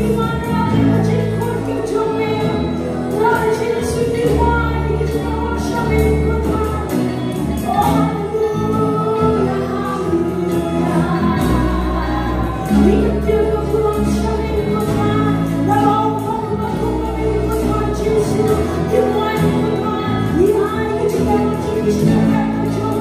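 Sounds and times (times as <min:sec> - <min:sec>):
acoustic guitar: 0:00.0 - 0:23.0
electric bass notes: 0:00.0 - 0:23.0
women singing together: 0:00.0 - 0:23.0.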